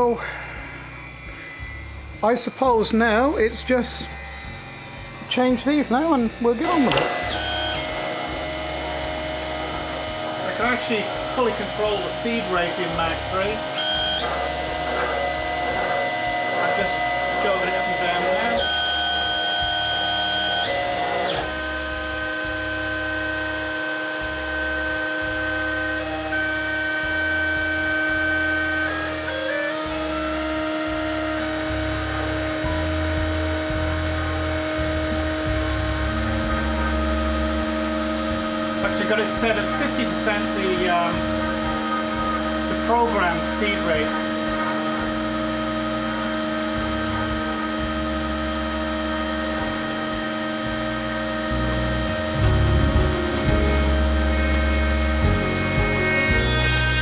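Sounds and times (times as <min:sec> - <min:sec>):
low hum: 0:00.0 - 0:57.0
router spindle whining: 0:00.0 - 0:57.0
stepper motors whirring: 0:00.0 - 0:57.0.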